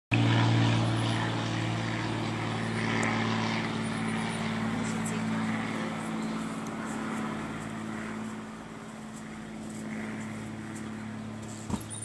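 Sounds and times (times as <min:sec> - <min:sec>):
distant motor drone: 0:00.1 - 0:12.0.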